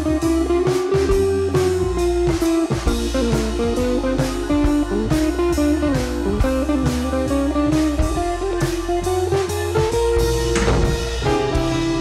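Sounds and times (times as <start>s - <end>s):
drum beat: 0.0s - 12.0s
electric guitar melody: 0.0s - 12.0s
steady bass line: 0.0s - 12.0s.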